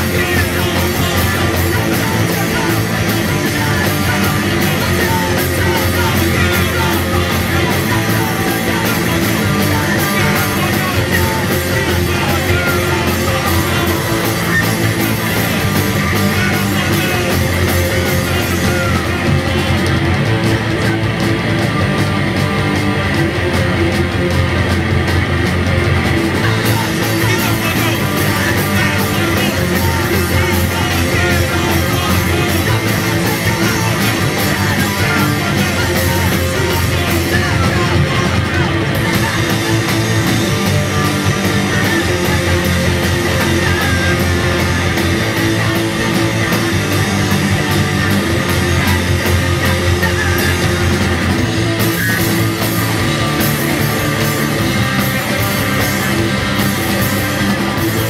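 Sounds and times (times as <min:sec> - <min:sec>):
distorted electric guitar: 0:00.0 - 0:58.0
drum kit: 0:00.0 - 0:58.0.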